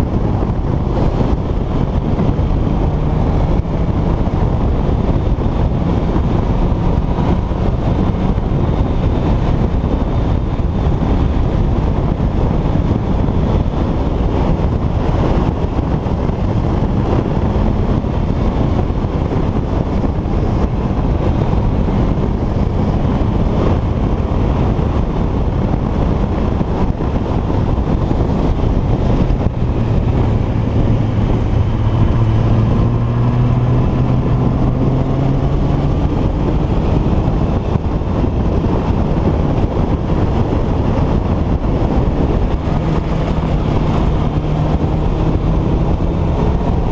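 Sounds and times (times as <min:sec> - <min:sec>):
vehicle engine running: 0:00.0 - 0:46.9
wind rumble on microphone: 0:00.0 - 0:46.9.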